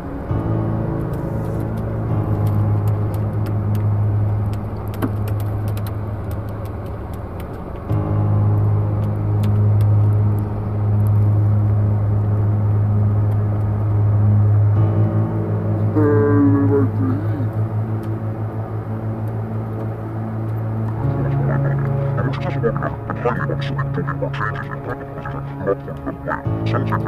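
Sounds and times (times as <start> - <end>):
car engine humming: 0.0 - 27.0.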